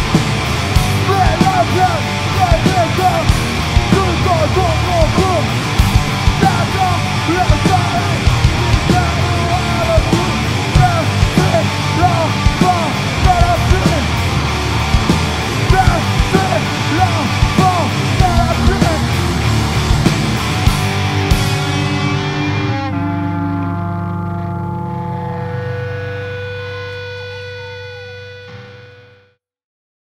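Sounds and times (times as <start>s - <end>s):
bending lead guitar line: 0.0s - 29.2s
live screamo band playing: 0.0s - 29.2s.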